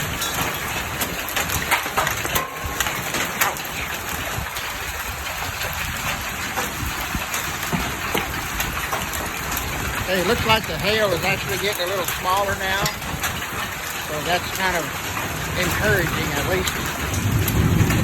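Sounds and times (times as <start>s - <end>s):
hailstones pelting down: 0.0s - 18.0s.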